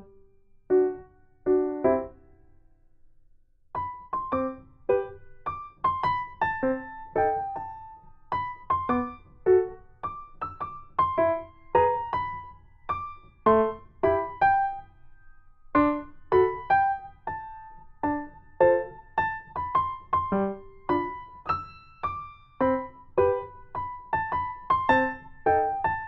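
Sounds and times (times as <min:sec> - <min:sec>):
light piano melody: 0:00.0 - 0:02.6, 0:03.7 - 0:26.0.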